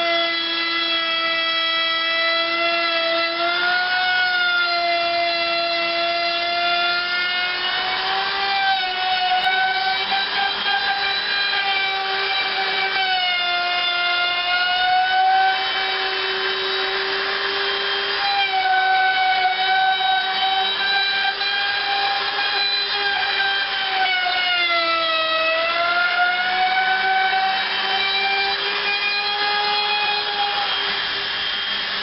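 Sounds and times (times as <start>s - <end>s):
router bit cutting wood: 0.0s - 32.0s
wood router whining: 0.0s - 32.0s.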